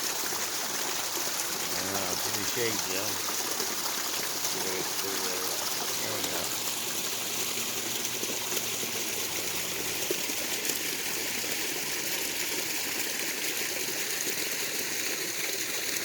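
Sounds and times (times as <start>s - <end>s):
pond waterfall splashing: 0.0s - 16.0s.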